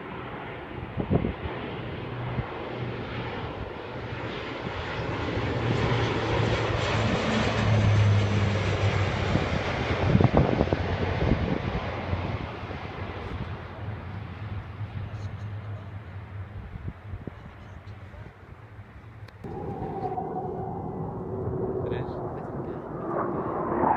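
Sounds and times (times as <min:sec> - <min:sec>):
military aircraft flying past: 0:00.0 - 0:23.9.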